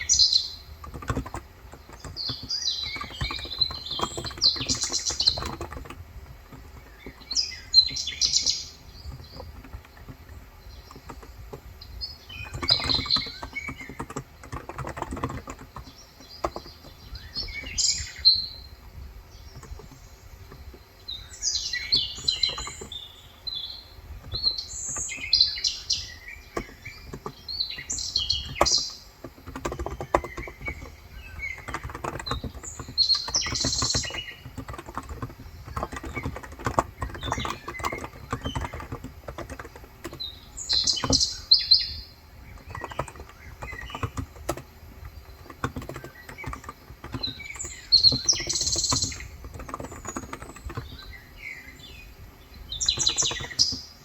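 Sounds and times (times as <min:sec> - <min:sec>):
keyboard typing clicks: 0:00.0 - 0:20.9, 0:21.6 - 0:23.1, 0:24.1 - 0:52.0, 0:52.7 - 0:54.0
birds chirping: 0:00.0 - 0:54.0.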